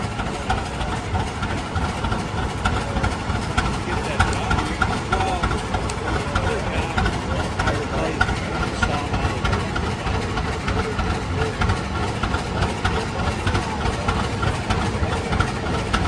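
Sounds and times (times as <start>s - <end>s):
tractor engine pulsing: 0.0s - 16.0s.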